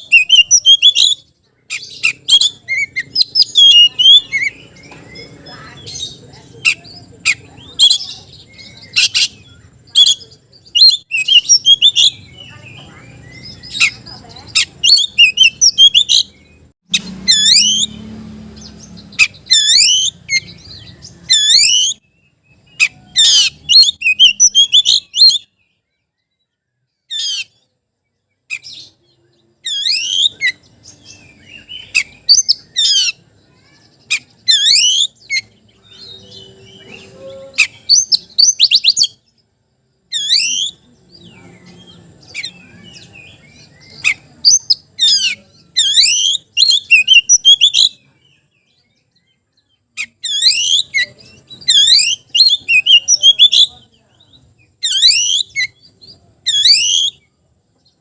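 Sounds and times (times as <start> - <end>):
bird singing whistled phrases: 0.0 - 18.0, 19.1 - 27.6, 28.5 - 39.3, 40.1 - 57.4.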